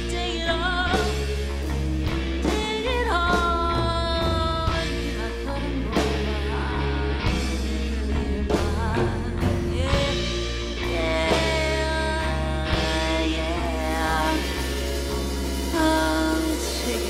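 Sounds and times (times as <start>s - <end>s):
electric guitar bending notes: 0.0s - 17.0s
rock band playing blues: 0.0s - 17.0s.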